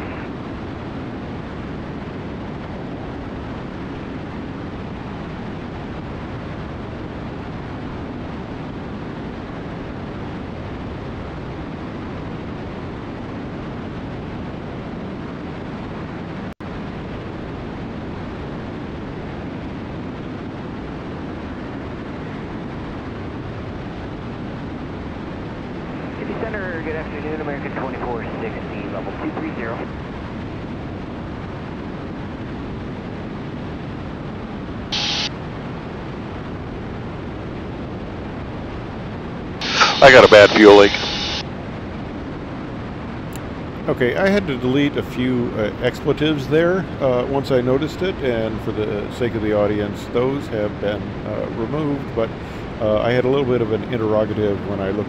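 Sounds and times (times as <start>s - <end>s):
aircraft cabin engine drone: 0.0s - 55.0s.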